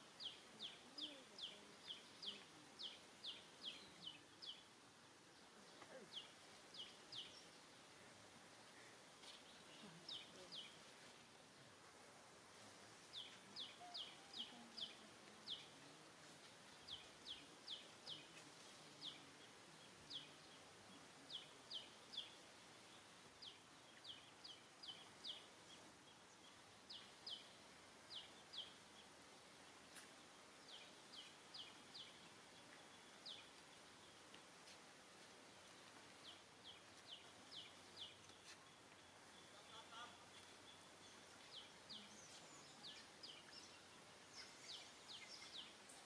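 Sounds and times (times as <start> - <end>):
low background hiss: 0.0 - 46.0.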